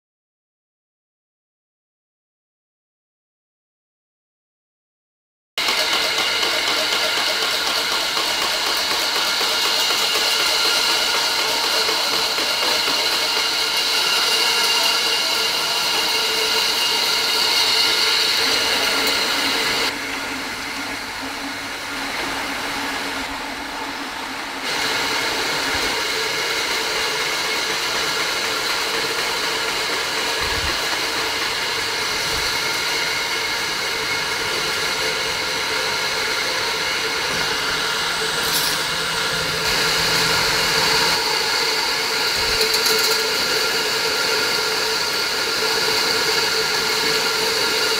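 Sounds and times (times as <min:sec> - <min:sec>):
factory machinery hum and hiss: 0:05.6 - 0:47.9
machine whining tones: 0:05.6 - 0:47.9.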